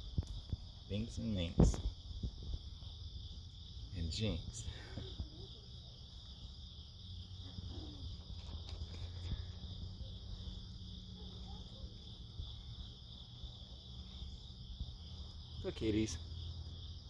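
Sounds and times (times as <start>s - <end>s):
faint low rumble: 0.0s - 17.0s
insect chorus trilling: 0.0s - 17.0s.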